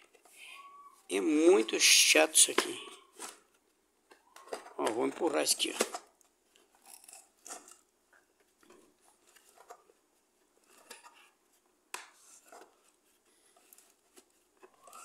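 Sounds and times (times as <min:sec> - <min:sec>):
plastic parts clicking and rustling: 0:00.0 - 0:00.4, 0:02.4 - 0:11.4, 0:12.0 - 0:15.0.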